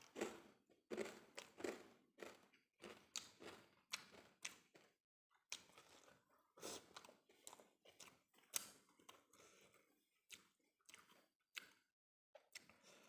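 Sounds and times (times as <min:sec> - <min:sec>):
person chewing rice: 0:00.0 - 0:13.0.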